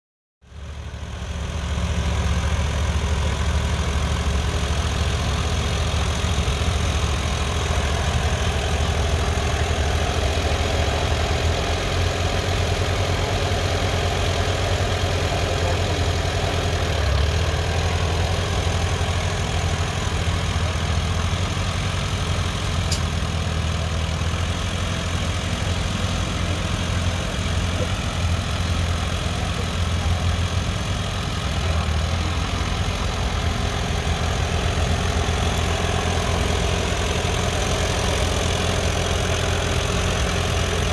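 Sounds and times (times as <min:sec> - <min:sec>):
tractor engine running at low throttle: 0:00.4 - 0:40.9.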